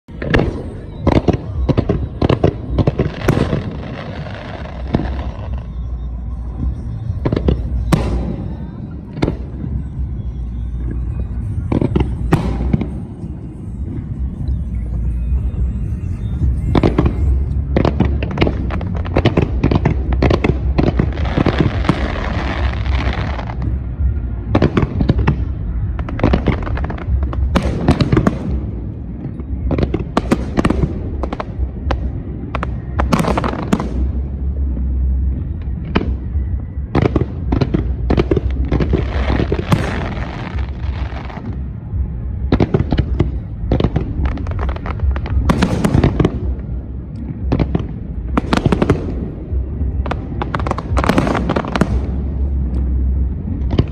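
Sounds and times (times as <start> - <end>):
fireworks crackling: 0.1 - 53.9
music: 0.1 - 53.9.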